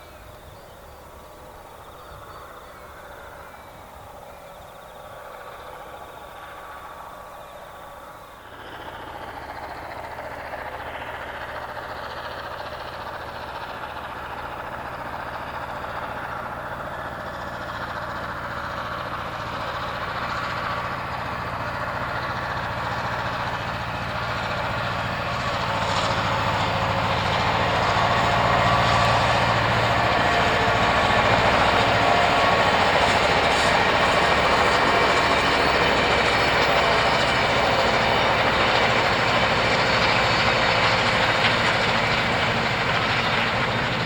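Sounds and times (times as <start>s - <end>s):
train running: 0.0s - 44.0s.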